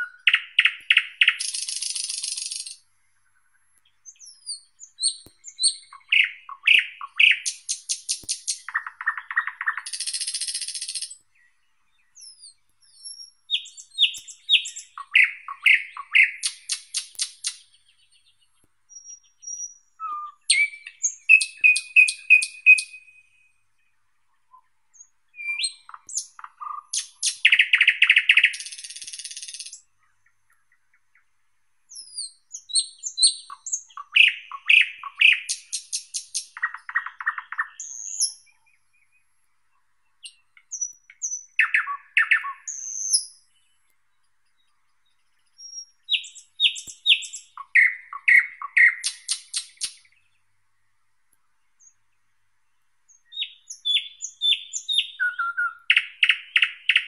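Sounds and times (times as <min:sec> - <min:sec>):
nightingale singing: 0:00.0 - 0:57.0.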